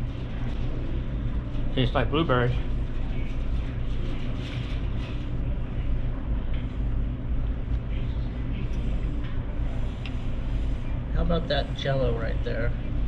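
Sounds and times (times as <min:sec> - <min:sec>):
restaurant room noise: 0:00.0 - 0:13.0.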